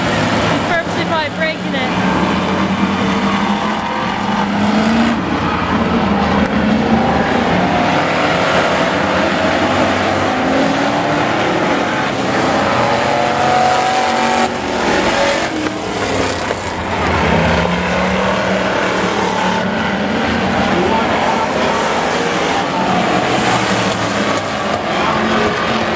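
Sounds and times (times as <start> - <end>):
racing truck engines: 0.0 - 25.9.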